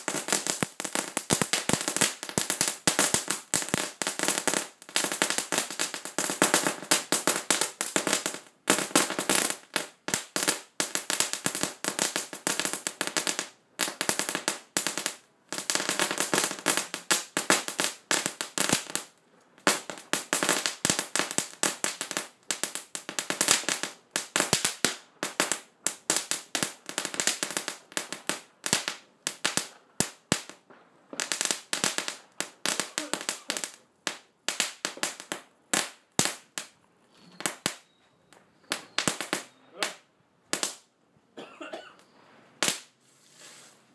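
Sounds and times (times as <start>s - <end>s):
firework crackling and popping: 0.0s - 40.9s, 42.0s - 43.9s.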